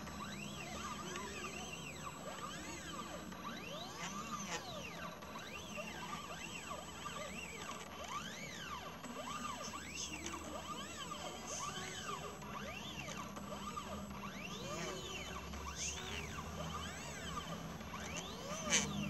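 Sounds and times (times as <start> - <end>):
stepper motors whining: 0.0 - 19.0.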